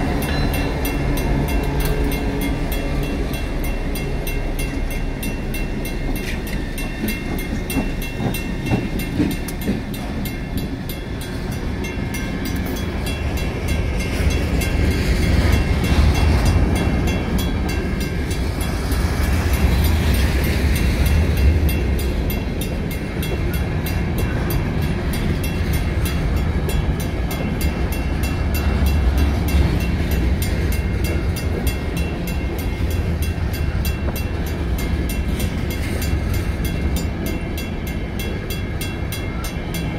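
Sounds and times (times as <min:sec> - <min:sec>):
crossing bell ringing: 0:00.0 - 0:39.9
train wheels rumbling on rails: 0:00.0 - 0:39.9.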